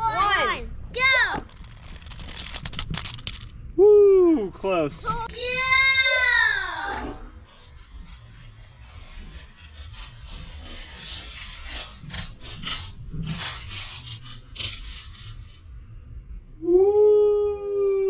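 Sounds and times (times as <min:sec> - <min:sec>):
rough scraping and rubbing: 0:00.0 - 0:03.7, 0:04.5 - 0:16.2.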